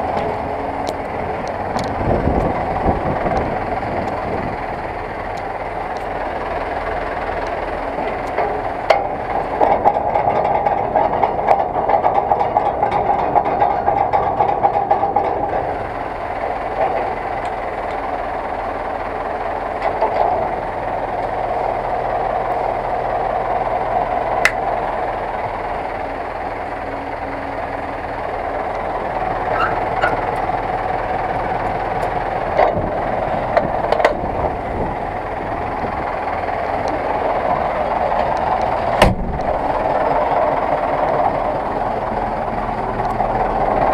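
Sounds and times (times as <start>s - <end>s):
rattling clatter: 0.0s - 21.6s, 29.2s - 43.9s
tractor diesel engine running: 0.0s - 43.9s.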